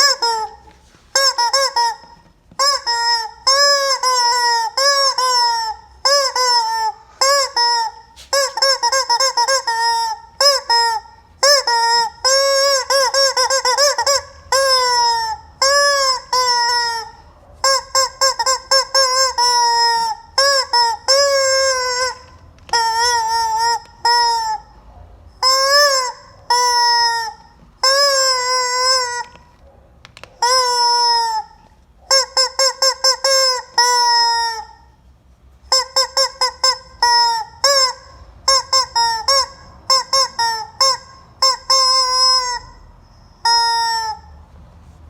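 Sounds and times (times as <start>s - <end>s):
rubber chicken toy squeaking: 0.0s - 35.0s, 35.6s - 44.4s.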